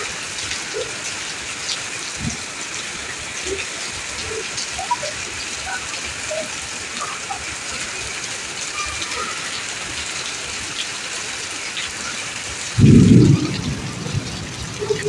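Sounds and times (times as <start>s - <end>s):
heavy rain on concrete: 0.0s - 15.0s.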